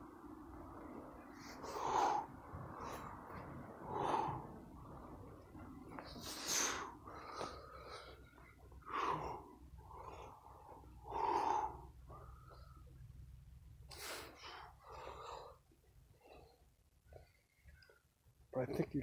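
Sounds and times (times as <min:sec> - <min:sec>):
man breathing heavily: 0:00.2 - 0:17.7.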